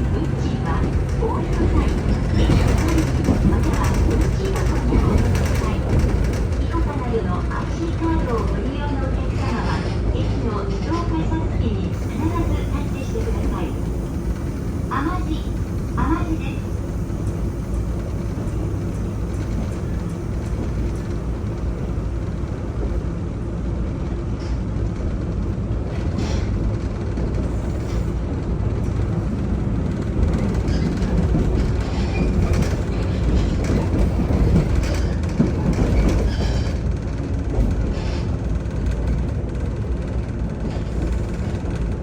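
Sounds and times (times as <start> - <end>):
rail clacks and knocks: 0.0 - 23.0, 28.8 - 42.0
train wheels and motors rumbling: 0.0 - 42.0.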